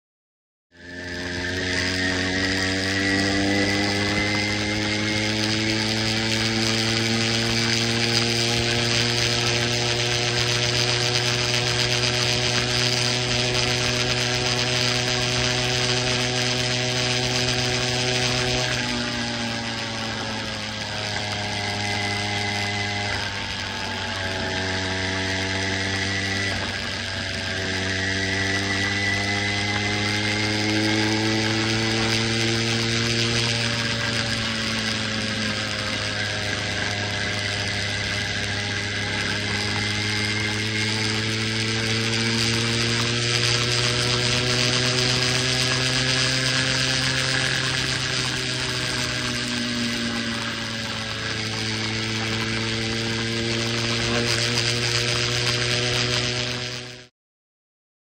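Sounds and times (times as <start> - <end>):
motorized bicycle engine running: 0.8 - 57.1.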